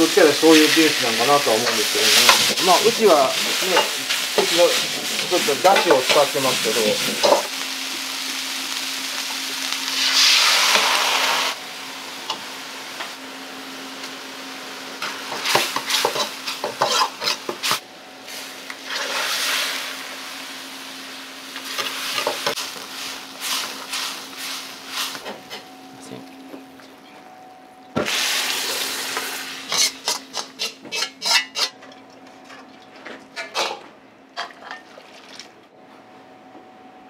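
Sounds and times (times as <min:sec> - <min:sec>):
sizzling in a wok: 0:00.0 - 0:26.4, 0:28.0 - 0:31.8.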